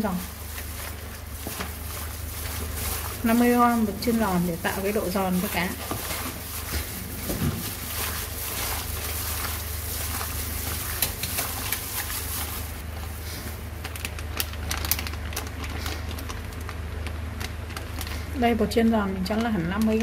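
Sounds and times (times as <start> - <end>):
wet squelching of batter: 0.0 - 18.4
plastic bag crinkling: 0.0 - 20.0
plastic glove rustle: 0.0 - 20.0.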